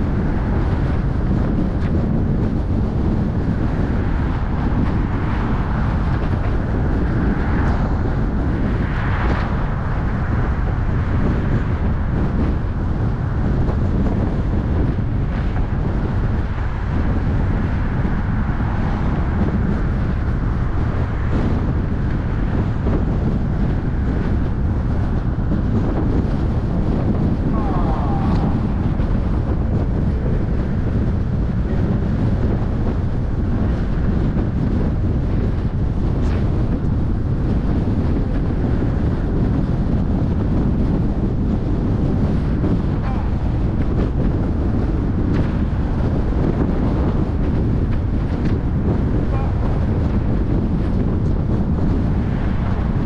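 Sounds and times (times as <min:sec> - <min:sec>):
moving car running noise: 0:00.0 - 0:53.0
wind buffeting microphone: 0:00.0 - 0:53.0.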